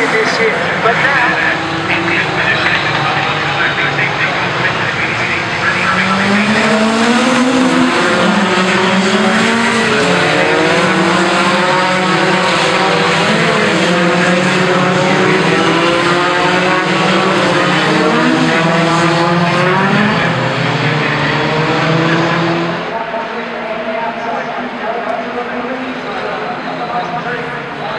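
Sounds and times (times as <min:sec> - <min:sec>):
race engines running: 0:00.0 - 0:27.9.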